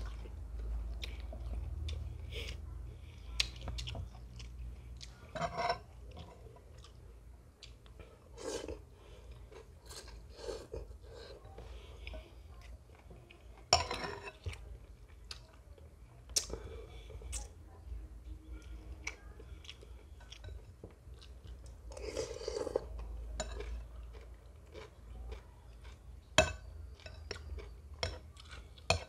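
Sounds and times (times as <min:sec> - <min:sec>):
chewing: 0:00.0 - 0:17.6, 0:18.5 - 0:29.0.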